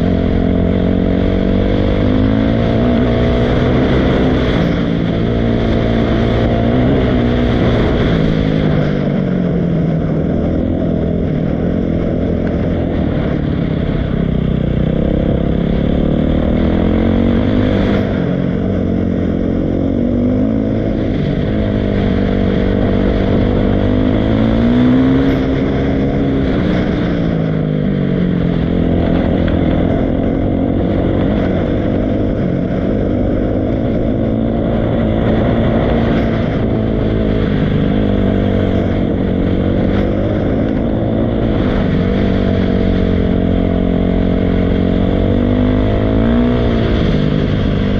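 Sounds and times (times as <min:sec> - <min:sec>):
dirt bike engine revving: 0:00.0 - 0:09.2, 0:10.1 - 0:27.4, 0:28.1 - 0:47.9.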